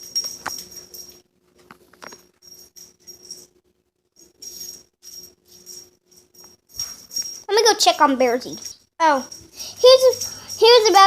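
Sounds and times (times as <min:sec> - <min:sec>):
small bell jingling: 0:00.0 - 0:01.3, 0:01.9 - 0:03.6, 0:04.2 - 0:11.0.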